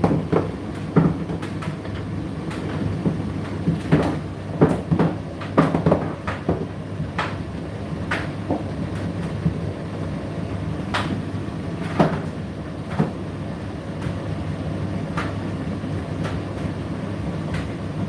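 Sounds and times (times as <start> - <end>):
tumble dryer motor hum: 0.0 - 18.0.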